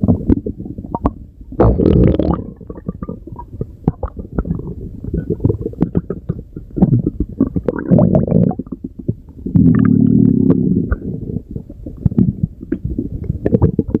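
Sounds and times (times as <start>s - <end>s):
stomach growling and gurgling: 0.0s - 14.0s.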